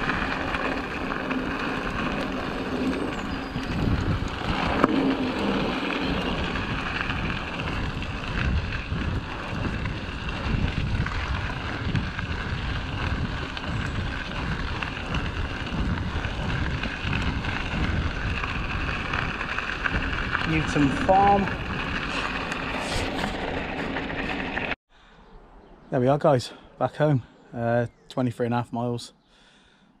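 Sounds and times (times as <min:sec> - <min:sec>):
bike tyres rolling on gravel: 0:00.0 - 0:24.8
wind buffeting microphone: 0:00.0 - 0:24.8.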